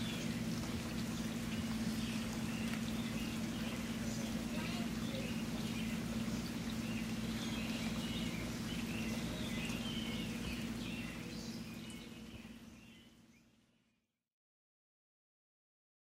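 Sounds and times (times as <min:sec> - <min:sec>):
running water: 0:00.0 - 0:13.6
birds chirping: 0:00.0 - 0:13.8.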